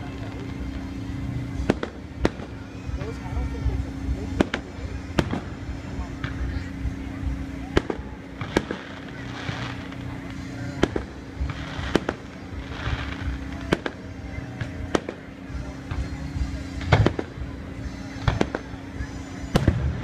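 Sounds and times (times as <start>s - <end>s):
fireworks bangs: 0.0s - 20.0s
steady low hum: 0.0s - 20.0s.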